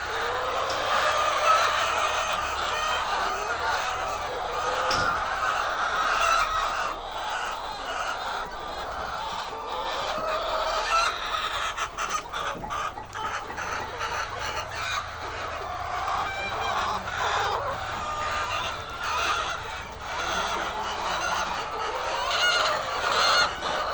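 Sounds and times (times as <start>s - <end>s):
chickens clucking: 0.0s - 23.9s.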